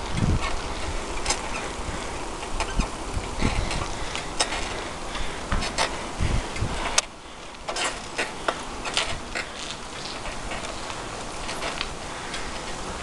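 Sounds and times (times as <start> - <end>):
bicycle ticking and clicking: 0.0 - 13.0
steady hiss: 0.0 - 13.0.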